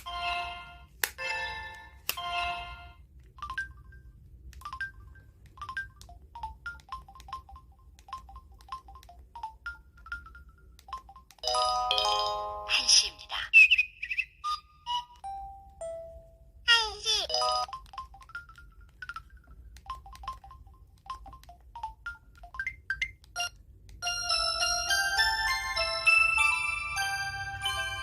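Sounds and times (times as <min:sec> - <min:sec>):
phone ringtone melody: 0:00.0 - 0:13.2, 0:14.4 - 0:16.5, 0:17.3 - 0:28.0.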